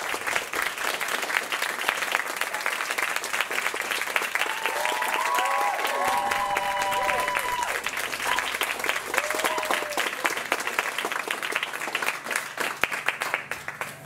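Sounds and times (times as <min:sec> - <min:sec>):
audience clapping: 0:00.0 - 0:14.0.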